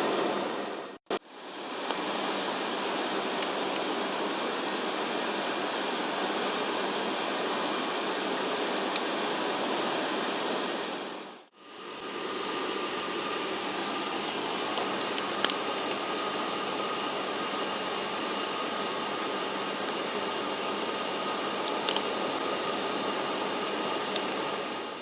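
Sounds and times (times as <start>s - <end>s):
propeller and airflow cabin noise: 0.0s - 25.0s.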